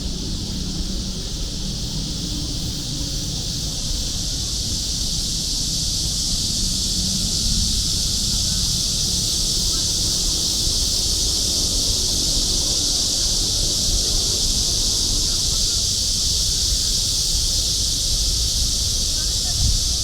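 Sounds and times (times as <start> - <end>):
cicadas singing: 0.0 - 20.0.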